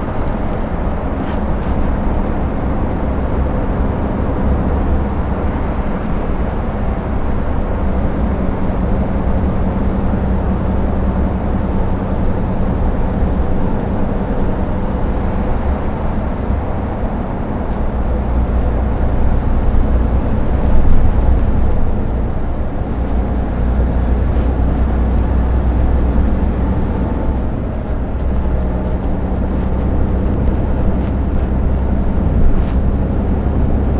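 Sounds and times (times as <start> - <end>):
truck engine and tyre drone: 0.0 - 33.9.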